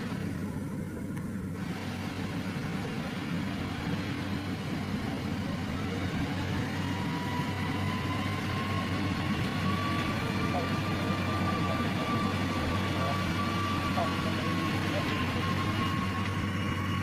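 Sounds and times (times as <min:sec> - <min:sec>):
faint whine rising in pitch: 0:00.0 - 0:17.0
vehicle engine rumbling: 0:00.0 - 0:17.0.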